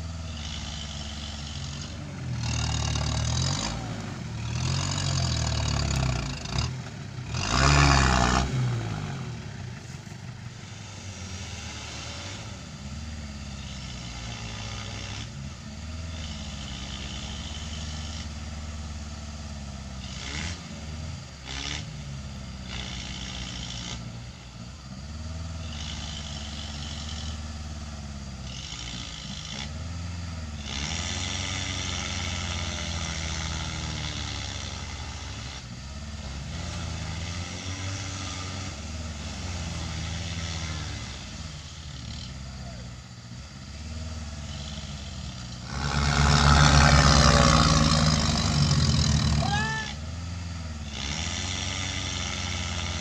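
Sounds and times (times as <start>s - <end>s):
diesel engine revving hard: 0.0s - 53.0s.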